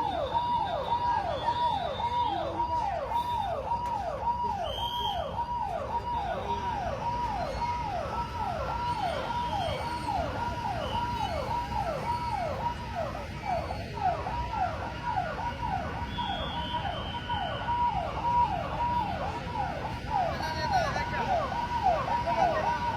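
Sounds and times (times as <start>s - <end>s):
emergency siren wailing: 0.0s - 22.9s.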